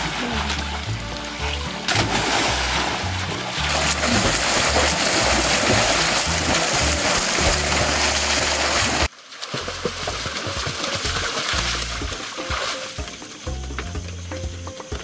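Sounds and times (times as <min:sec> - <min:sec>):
background music with bass line: 0:00.0 - 0:15.0
water splashing from swimming: 0:00.0 - 0:15.0.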